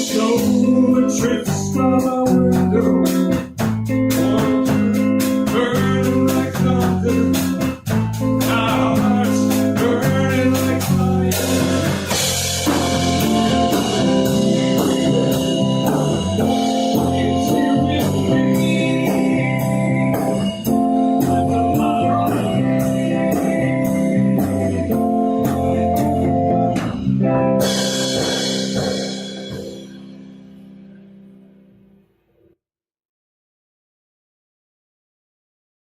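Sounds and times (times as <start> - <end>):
rock band playing: 0.0 - 31.4.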